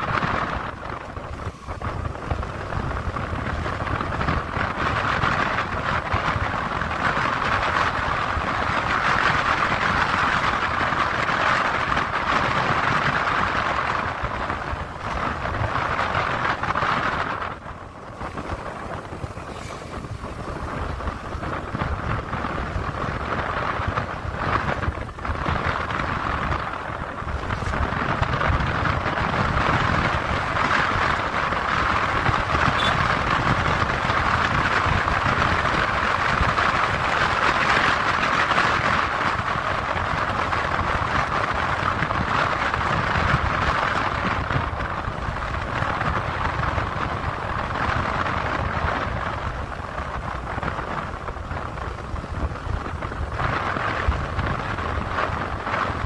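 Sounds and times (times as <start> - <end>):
vehicle rumble on road: 0.0 - 56.0
wind rushing over microphone: 0.0 - 56.0.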